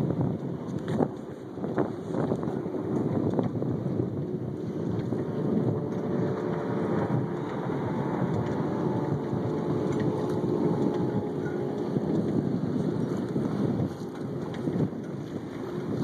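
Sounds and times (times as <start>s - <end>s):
water washing past hull: 0.0s - 16.0s
wind buffeting microphone: 0.0s - 16.0s.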